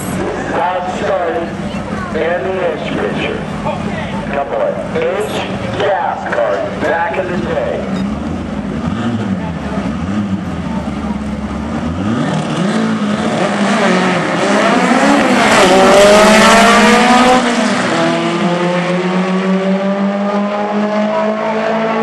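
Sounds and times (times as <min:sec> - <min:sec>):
drag car engines revving: 0:00.0 - 0:22.0.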